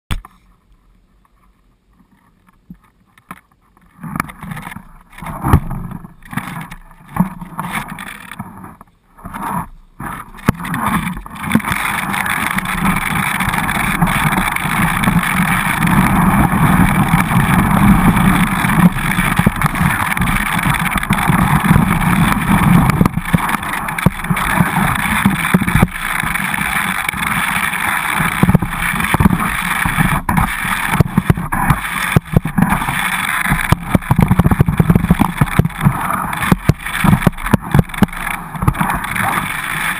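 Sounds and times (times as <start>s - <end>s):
skis scraping over snow: 1.2s - 39.9s
wind noise on microphone: 1.3s - 39.9s.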